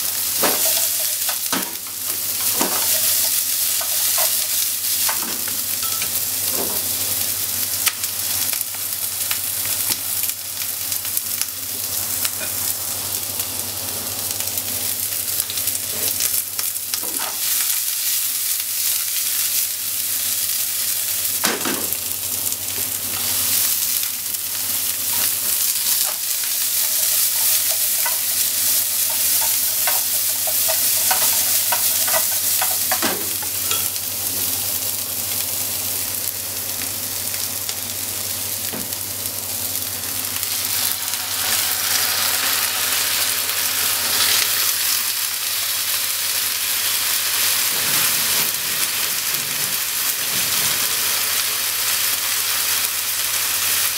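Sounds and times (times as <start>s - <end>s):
onions sizzling in oil: 0.0s - 53.9s.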